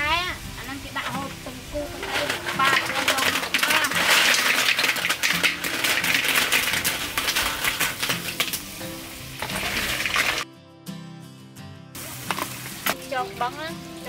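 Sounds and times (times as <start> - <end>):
paste sizzling in hot oil: 0.3 - 10.4, 12.0 - 14.0.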